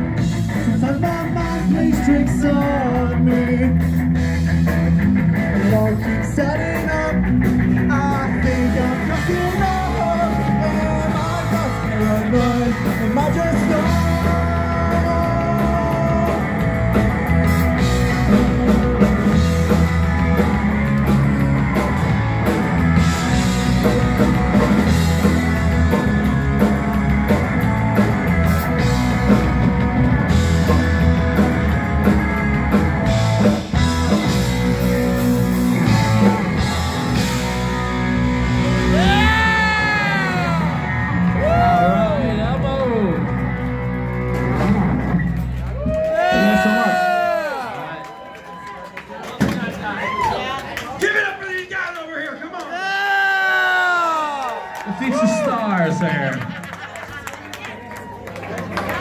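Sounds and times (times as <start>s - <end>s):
distorted electric guitars: 0.0s - 47.8s
drum kit: 0.0s - 47.8s
bass guitar: 0.0s - 48.0s, 55.0s - 59.0s.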